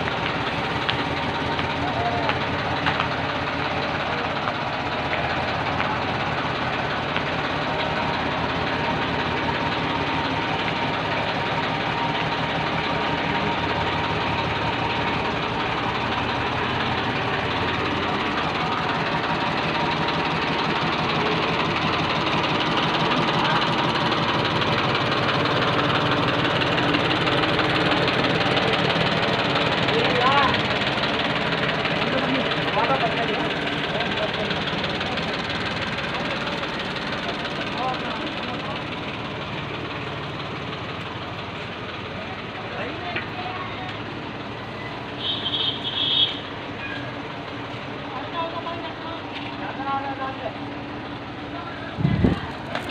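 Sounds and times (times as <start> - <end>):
tractor diesel engine chugging: 0.0 - 52.9.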